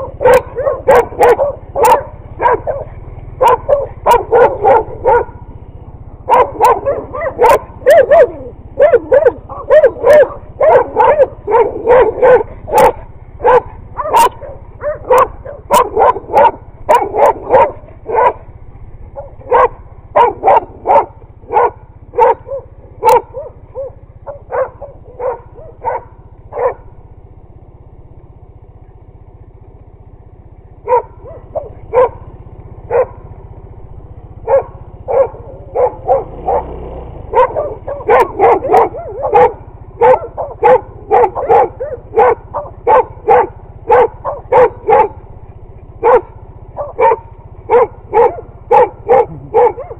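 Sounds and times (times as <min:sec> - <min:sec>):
dogs barking: 0:00.0 - 0:27.4, 0:29.8 - 0:49.9
low steady hum: 0:00.0 - 0:49.9.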